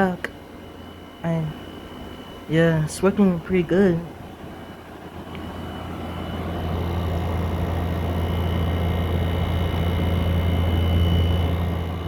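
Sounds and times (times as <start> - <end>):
faint high whine: 0.0 - 12.0
window air conditioner humming: 0.0 - 12.0.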